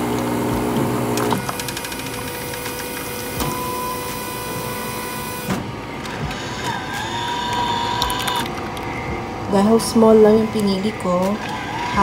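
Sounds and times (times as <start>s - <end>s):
coffee machine running with hiss: 0.0s - 12.0s.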